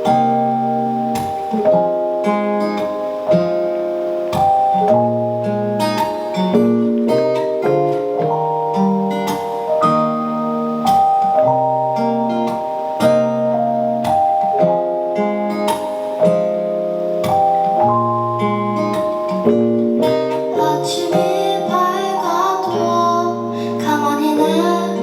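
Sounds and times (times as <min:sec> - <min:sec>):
strummed guitar chords: 0:00.0 - 0:25.0.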